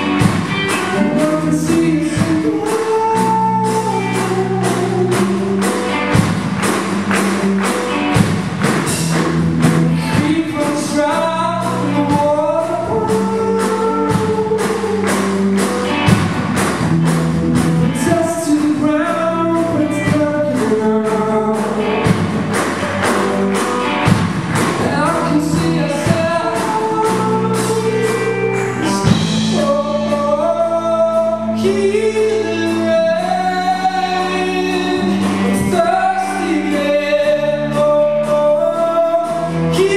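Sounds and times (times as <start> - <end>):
man singing lead vocals: 0.0 - 6.4, 8.8 - 16.1, 17.8 - 23.4, 24.6 - 39.9
bass guitar: 0.0 - 39.9
drum kit steady beat: 0.0 - 39.9
guitars: 0.0 - 39.9.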